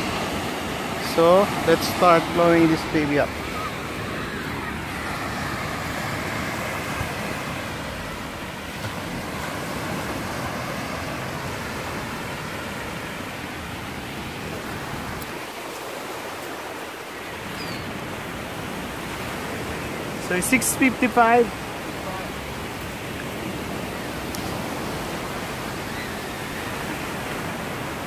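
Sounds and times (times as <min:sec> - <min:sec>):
small waves breaking on shore: 0:00.0 - 0:28.0.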